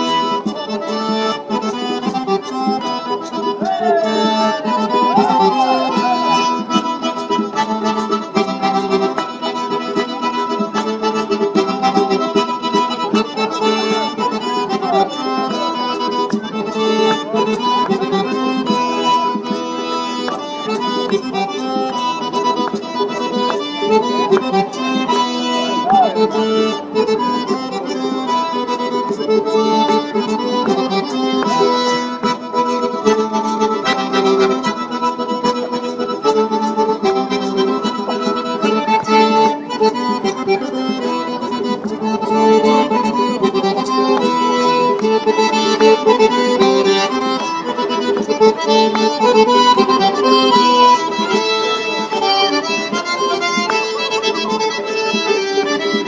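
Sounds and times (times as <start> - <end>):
accordion playing dance tune: 0.0 - 56.0.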